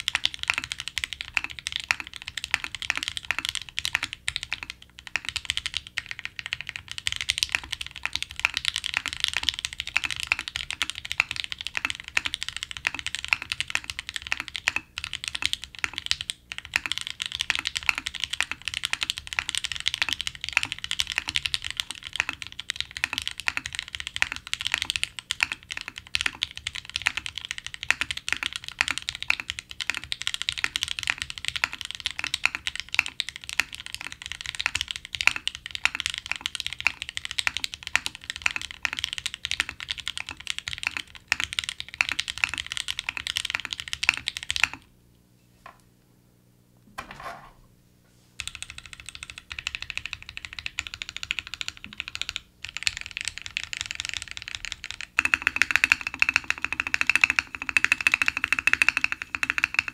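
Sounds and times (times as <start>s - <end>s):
rapid mechanical keyboard typing: 0.0s - 44.9s, 48.4s - 59.9s.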